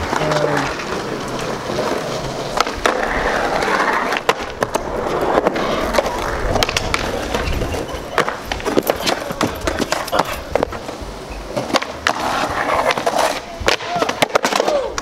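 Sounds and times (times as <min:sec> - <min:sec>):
skateboard clacking on ground: 0:00.0 - 0:15.0
skateboard wheels rolling on concrete: 0:00.0 - 0:15.0.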